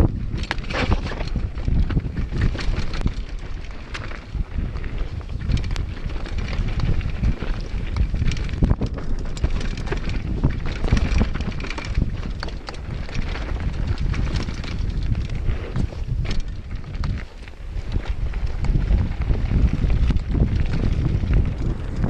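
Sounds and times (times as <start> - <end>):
bike rattles and knocks: 0.0 - 22.0
wind buffeting microphone: 0.0 - 22.0.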